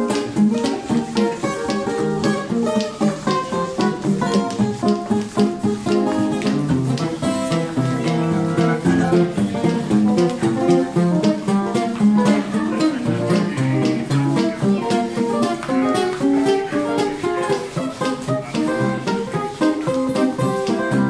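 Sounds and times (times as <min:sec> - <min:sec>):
acoustic guitars playing swing jazz: 0:00.0 - 0:21.0.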